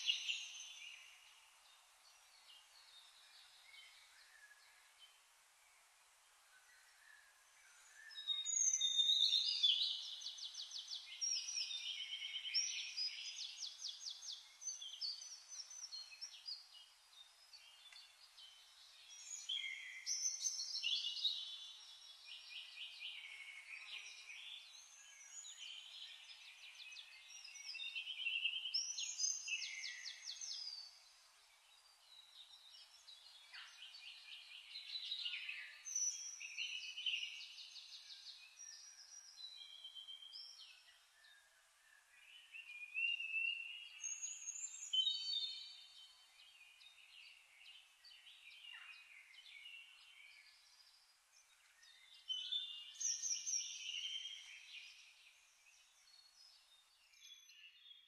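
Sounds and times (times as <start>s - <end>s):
birdsong trills and warbles: 0.0s - 58.0s.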